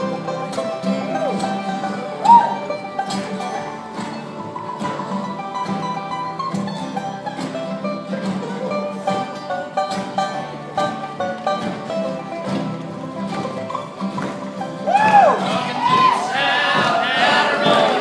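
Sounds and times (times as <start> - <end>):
accordion: 0.0 - 14.8, 15.4 - 18.0
acoustic guitars strumming: 0.0 - 18.0
banjos picking: 0.0 - 18.0
fiddles: 0.0 - 18.0.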